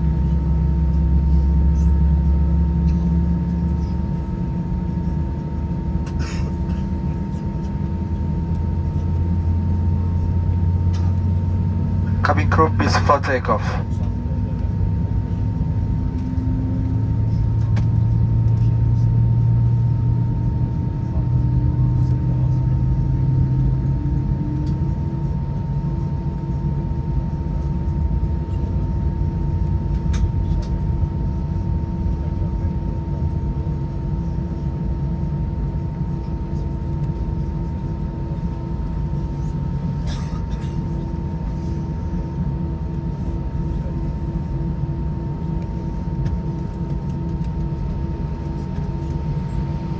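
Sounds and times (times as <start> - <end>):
low rumble of takeoff roll: 0.0 - 49.9.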